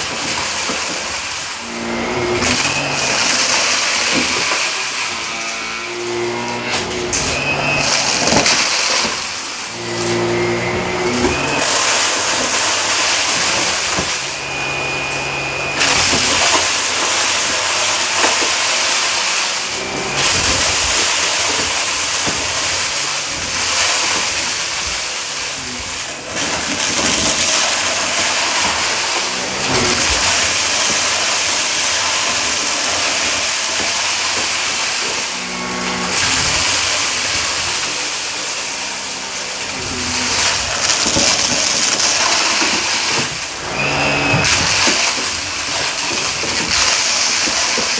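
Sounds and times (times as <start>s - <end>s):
vacuum motor hum: 0.0s - 47.9s.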